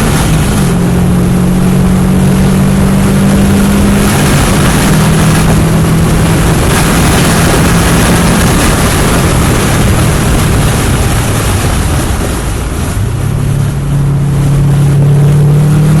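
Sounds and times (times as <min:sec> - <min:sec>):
car engine running hard: 0:00.0 - 0:16.0
wind and road noise: 0:00.0 - 0:16.0.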